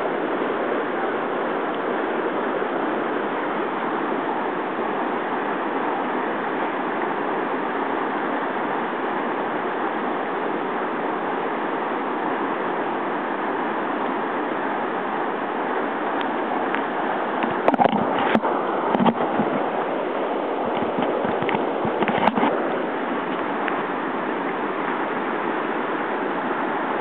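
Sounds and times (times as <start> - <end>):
river rapids roaring over rocks: 0.0 - 27.0.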